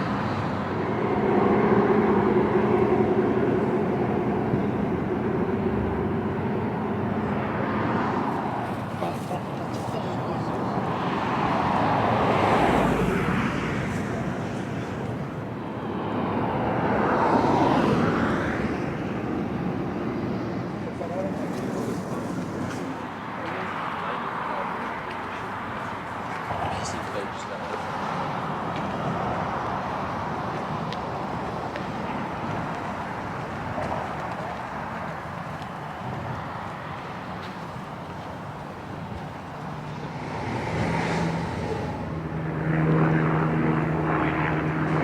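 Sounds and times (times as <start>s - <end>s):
road noise hum: 0.0s - 45.0s
vehicles passing: 0.0s - 45.0s.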